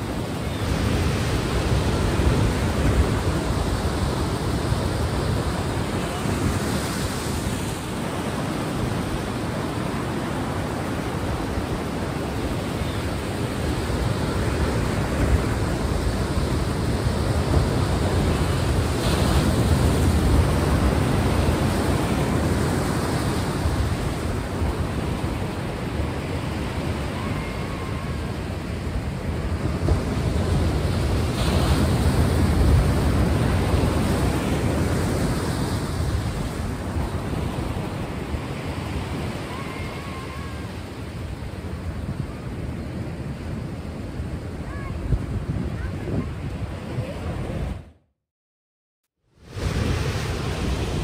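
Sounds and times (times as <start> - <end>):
ocean waves washing in: 0.0 - 48.0, 49.3 - 51.0.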